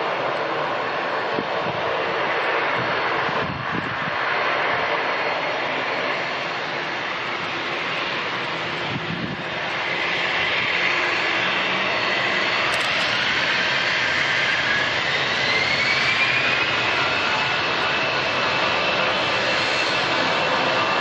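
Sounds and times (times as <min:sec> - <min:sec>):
jet engines roaring with whine: 0:00.0 - 0:21.0.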